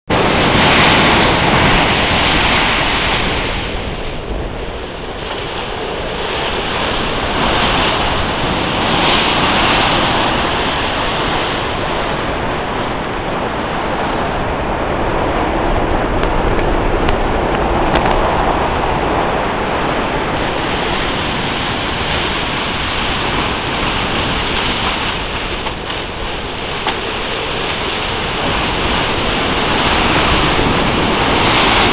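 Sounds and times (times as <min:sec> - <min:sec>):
sea water rushing: 0:00.1 - 0:31.9.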